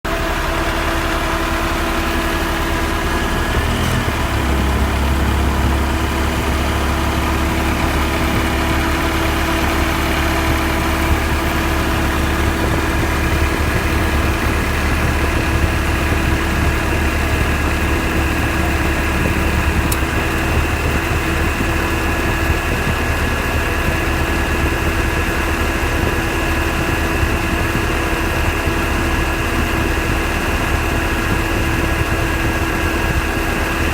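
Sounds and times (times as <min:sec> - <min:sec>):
ac compressor running: 0:00.0 - 0:33.9
car engine idling: 0:00.0 - 0:33.9.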